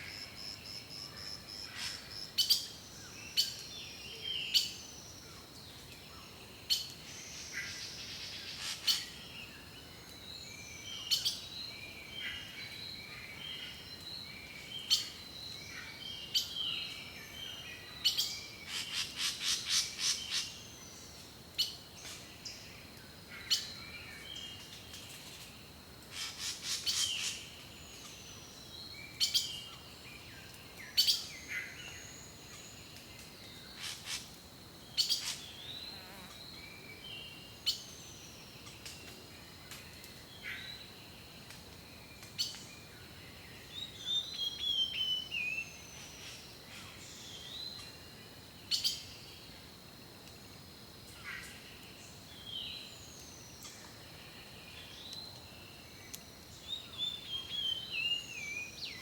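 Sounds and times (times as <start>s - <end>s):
songbirds singing: 0.0s - 49.6s, 51.1s - 59.0s.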